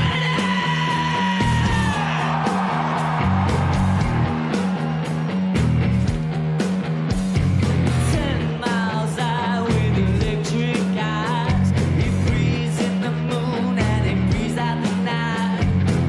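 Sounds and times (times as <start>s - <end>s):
drums at a steady beat: 0.0s - 16.0s
rock band playing: 0.0s - 16.0s.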